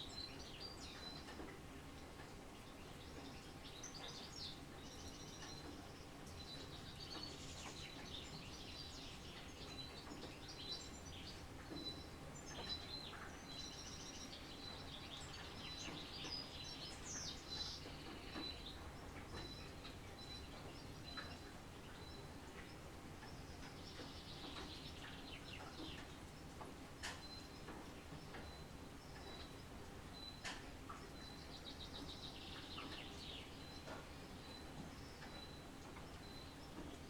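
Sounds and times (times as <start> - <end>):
low background hiss: 0.0 - 37.0.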